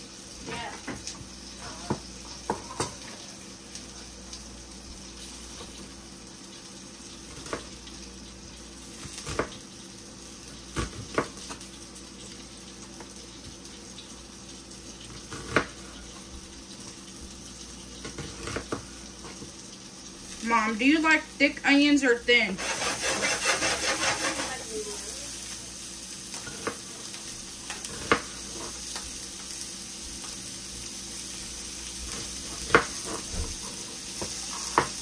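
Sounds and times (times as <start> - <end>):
sausages sizzling in a pan: 0.0 - 35.0.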